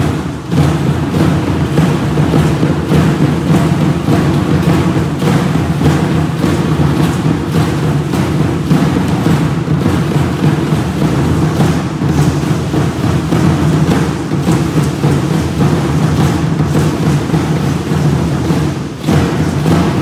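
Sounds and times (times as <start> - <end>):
large drums beating steadily: 0.0 - 20.0.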